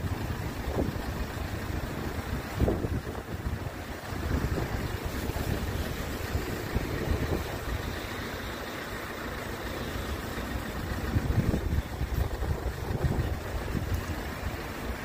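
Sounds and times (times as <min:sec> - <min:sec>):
wind buffeting microphone: 0:00.0 - 0:08.1, 0:10.7 - 0:15.0
road traffic rumbling: 0:00.0 - 0:15.0.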